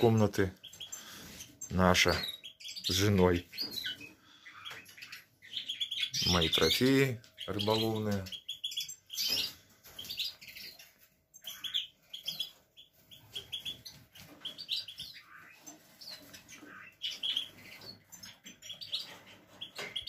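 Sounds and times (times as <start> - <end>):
finches chirping: 0.0 - 20.0.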